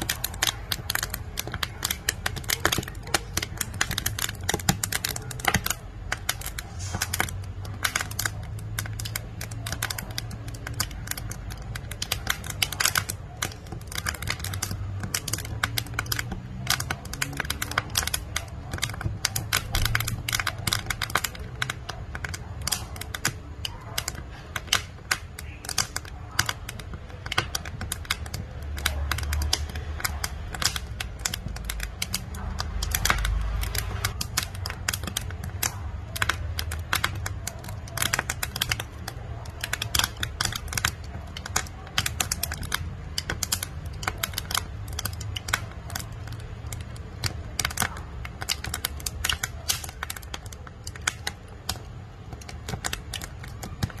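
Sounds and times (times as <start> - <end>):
low rumble of flame: 0.0 - 54.0
wood fire crackling: 0.0 - 54.0.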